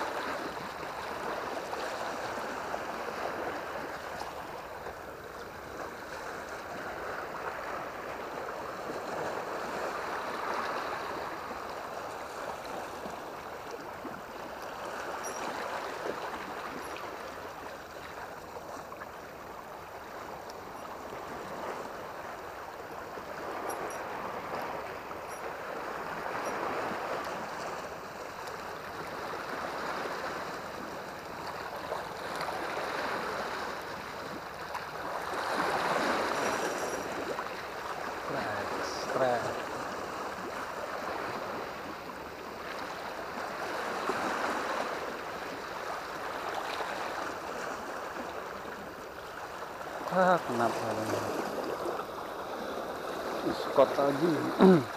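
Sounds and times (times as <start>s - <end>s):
waves lapping against rocks: 0.0s - 54.9s.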